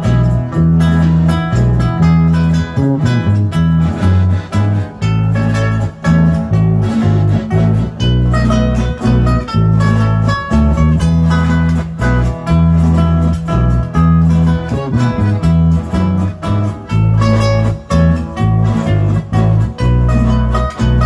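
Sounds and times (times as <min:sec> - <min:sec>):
accordion melody: 0:00.0 - 0:21.0
deep bass line: 0:00.0 - 0:21.0
strummed guitar: 0:00.0 - 0:21.0.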